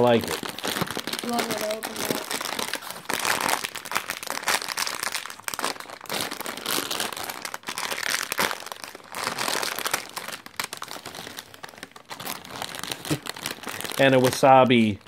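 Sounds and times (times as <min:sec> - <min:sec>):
plastic snack bag crinkling: 0:00.0 - 0:15.0.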